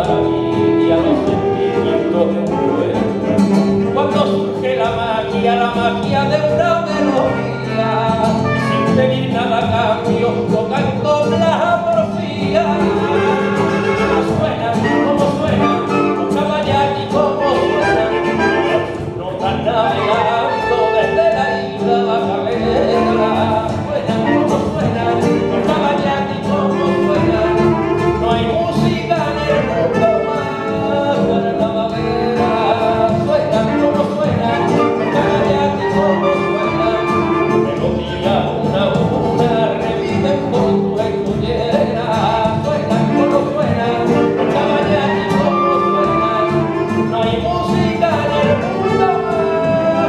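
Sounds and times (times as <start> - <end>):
live band playing rumba: 0.0 - 50.0
people singing: 0.0 - 50.0.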